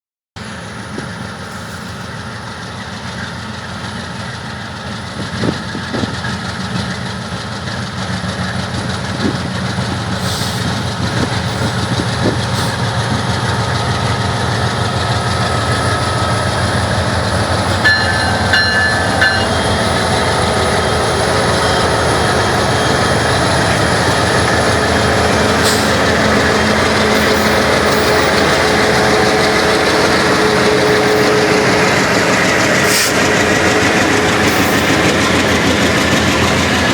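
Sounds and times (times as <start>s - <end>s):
freight train rumbling: 0.4s - 36.9s.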